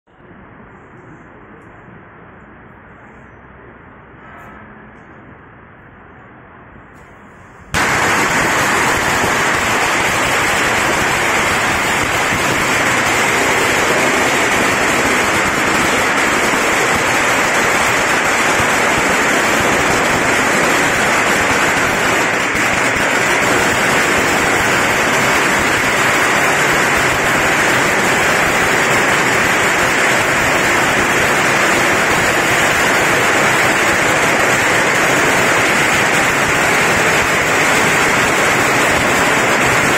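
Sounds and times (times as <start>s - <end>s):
firecrackers crackling: 7.7s - 39.9s.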